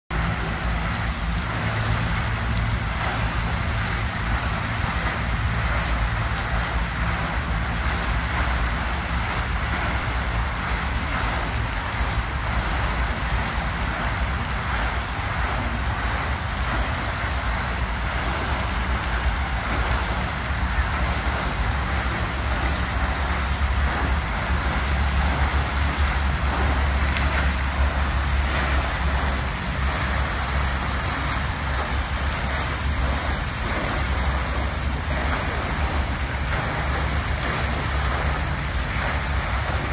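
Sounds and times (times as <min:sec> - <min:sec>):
fountain water splashing: 0:00.1 - 0:39.9.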